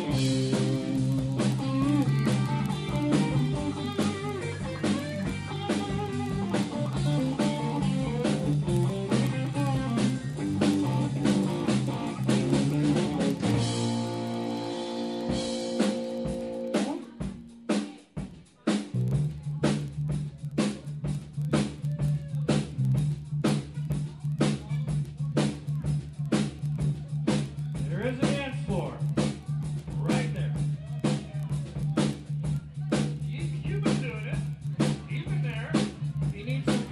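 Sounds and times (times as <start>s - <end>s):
rock band playing: 0.0s - 36.9s.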